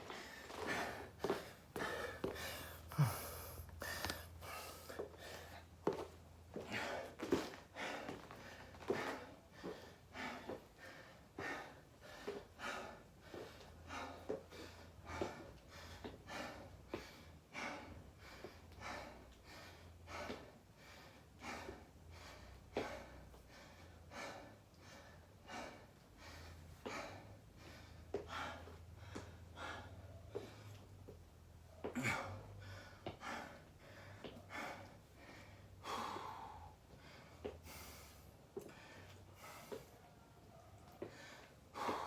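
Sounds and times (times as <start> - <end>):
man breathing hard: 0.0 - 42.0.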